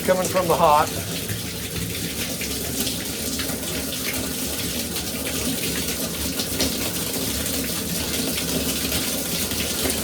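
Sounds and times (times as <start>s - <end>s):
shower water splashing: 0.0s - 10.0s.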